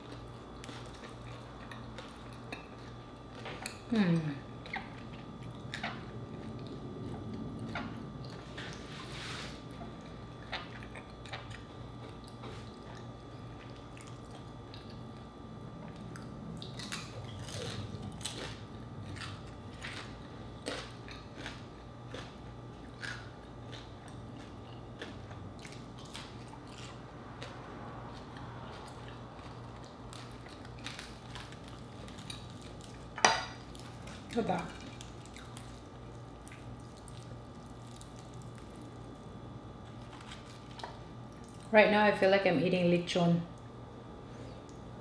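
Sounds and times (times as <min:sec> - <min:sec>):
crunchy chewing: 0:00.0 - 0:41.7.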